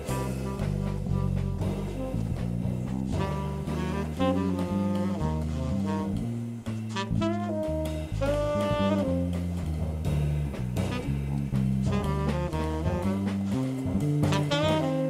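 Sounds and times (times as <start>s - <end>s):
cymbal-driven drums: 0.0s - 15.0s
tenor saxophone: 0.0s - 15.0s
walking bass line: 0.0s - 15.0s.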